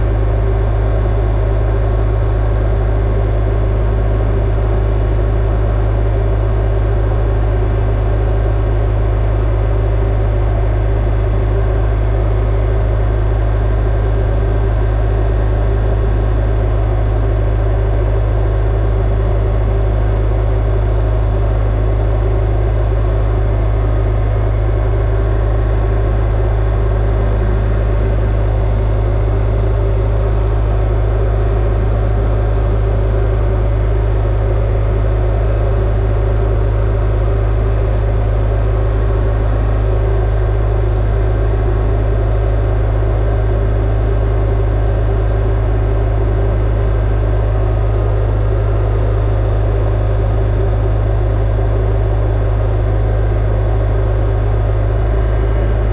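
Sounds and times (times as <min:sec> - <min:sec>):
crane engine idling: 0:00.0 - 0:55.9.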